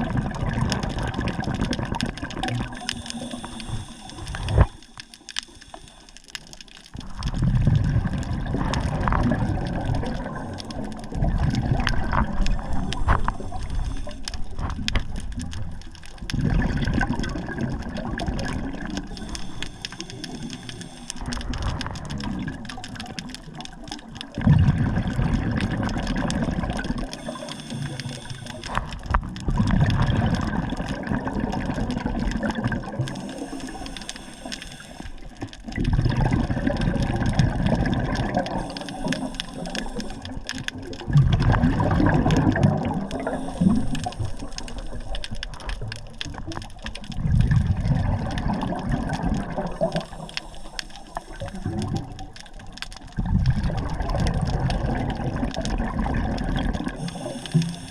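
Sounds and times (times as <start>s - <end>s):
water surging and washing: 0.0s - 57.9s.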